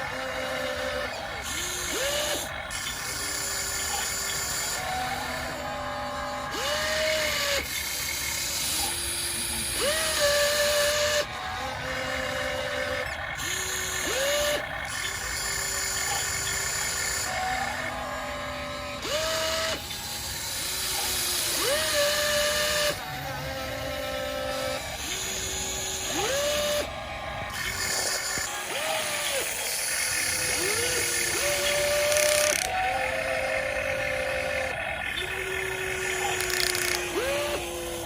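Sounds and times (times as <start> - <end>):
hydraulic pump whining: 0.0 - 38.0.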